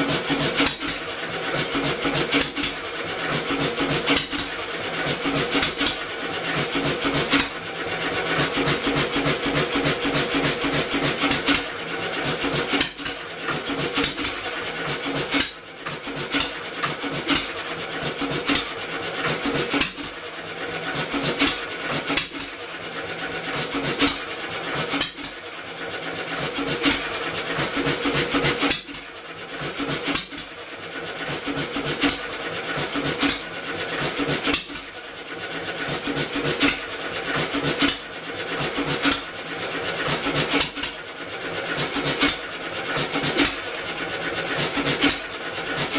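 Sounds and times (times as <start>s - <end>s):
engine clattering and humming: 0.0s - 45.9s.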